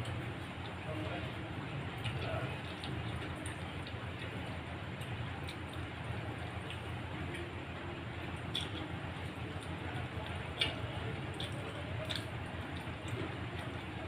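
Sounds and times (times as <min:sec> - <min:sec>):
wet clicks and squishes of eating: 0:00.0 - 0:14.0.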